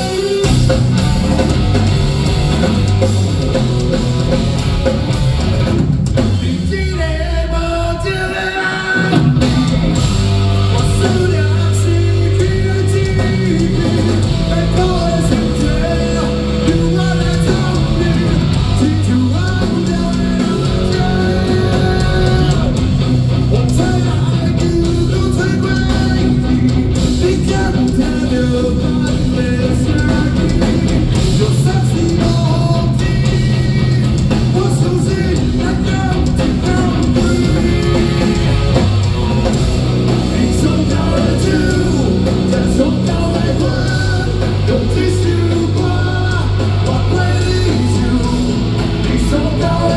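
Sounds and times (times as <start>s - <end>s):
drums: 0.0s - 49.9s
electric guitars: 0.0s - 49.9s
rock song with singing: 0.0s - 49.9s.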